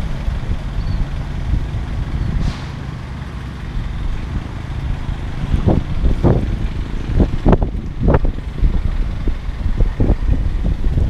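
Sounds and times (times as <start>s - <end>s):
distant traffic: 0.0s - 11.0s
wind on microphone: 0.0s - 11.0s.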